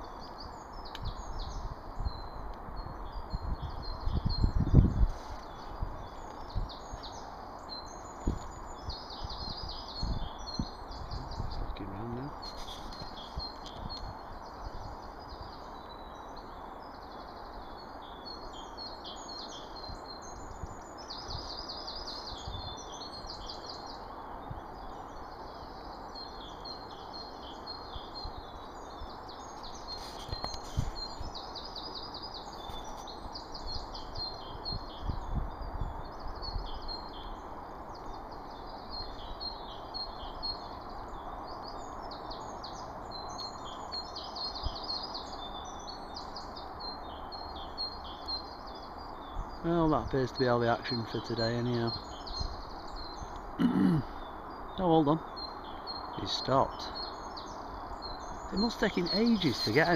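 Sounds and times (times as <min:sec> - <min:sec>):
outdoor background hiss: 0:00.0 - 0:59.9
songbirds chirping and trilling: 0:00.0 - 0:59.9.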